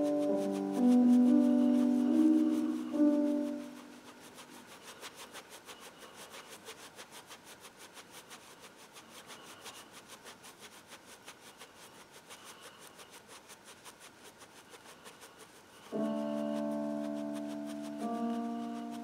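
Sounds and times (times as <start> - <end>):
paintbrush scrubbing on paper: 0.0 - 19.0.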